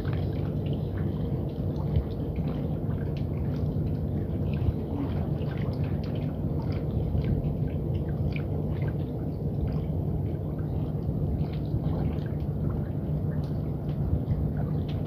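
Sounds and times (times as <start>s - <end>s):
steady low hum: 0.0s - 15.0s
water lapping against pilings: 0.0s - 15.0s.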